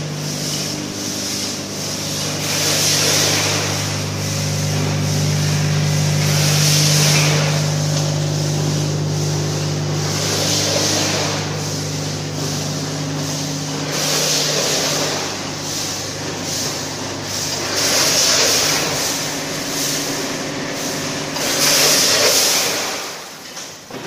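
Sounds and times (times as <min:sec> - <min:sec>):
loud bursts of hiss: 0:00.0 - 0:23.3
machine hum: 0:00.0 - 0:24.0.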